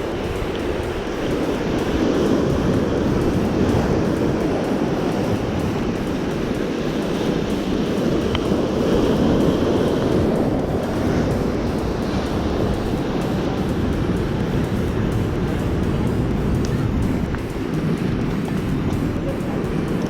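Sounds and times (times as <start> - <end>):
surf rushing: 0.0 - 20.0
wind rumbling on microphone: 0.0 - 20.0.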